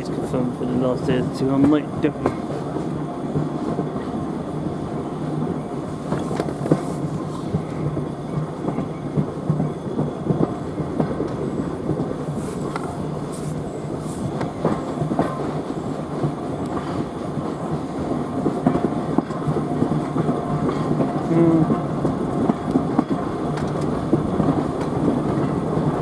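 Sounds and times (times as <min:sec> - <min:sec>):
wheels clicking over rail joints: 0:00.0 - 0:04.0, 0:06.0 - 0:26.0
railway carriage rumble: 0:00.0 - 0:26.0.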